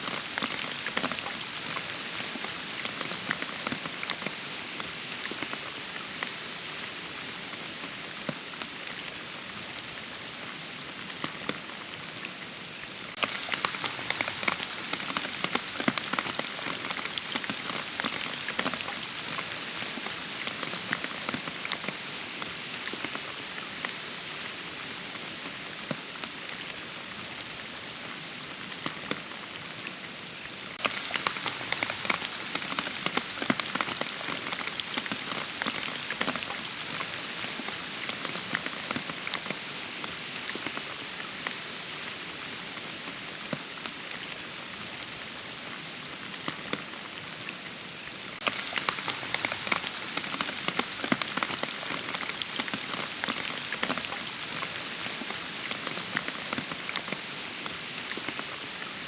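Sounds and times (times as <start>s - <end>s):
rain in forest: 0.0s - 59.0s
raindrops striking close by: 0.0s - 59.0s.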